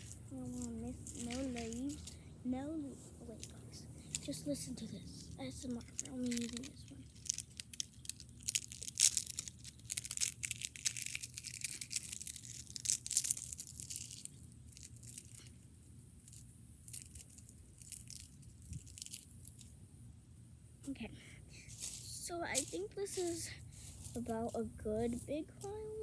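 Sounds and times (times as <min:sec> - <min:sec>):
dry leaf crackling: 0:00.0 - 0:19.8, 0:21.5 - 0:26.0.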